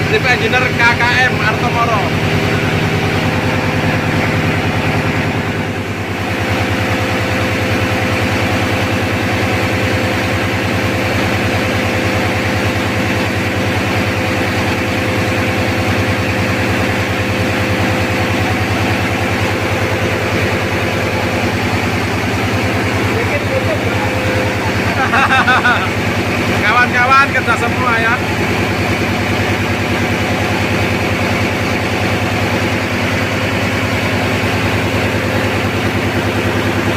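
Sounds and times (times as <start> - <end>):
marine diesel engine running: 0.0 - 36.9.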